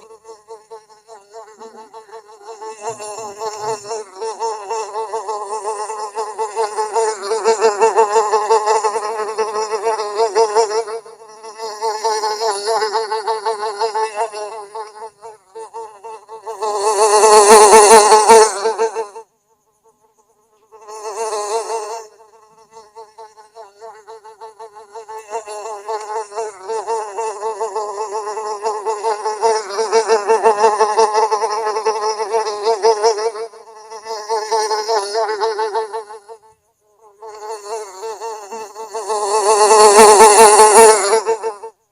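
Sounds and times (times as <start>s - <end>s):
houseflies buzzing: 0.0s - 19.2s, 19.8s - 41.8s.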